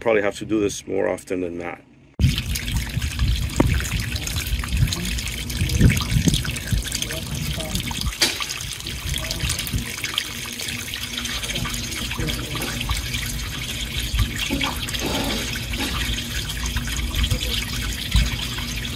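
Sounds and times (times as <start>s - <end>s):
water gushing from drain pipe: 2.2s - 18.9s.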